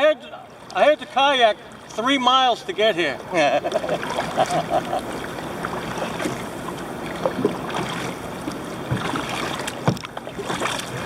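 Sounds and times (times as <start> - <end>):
water splashing against hull: 0.0 - 11.0.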